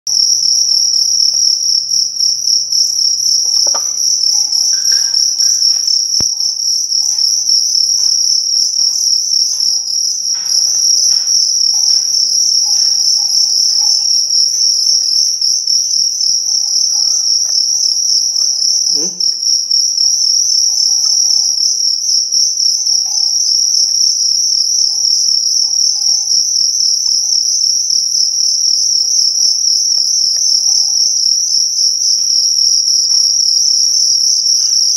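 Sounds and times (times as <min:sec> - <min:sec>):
crickets trilling: 0:00.1 - 0:34.9.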